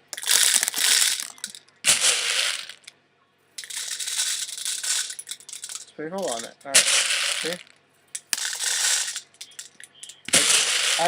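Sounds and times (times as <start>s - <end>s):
plastic pellets rattling in a bottle: 0.0s - 2.9s, 3.6s - 11.0s.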